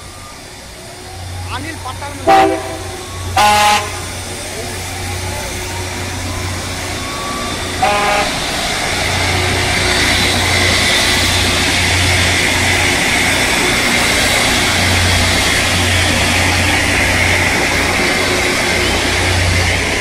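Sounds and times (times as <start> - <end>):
low engine drone: 0.0 - 20.0
rail grinding hiss: 0.0 - 20.0.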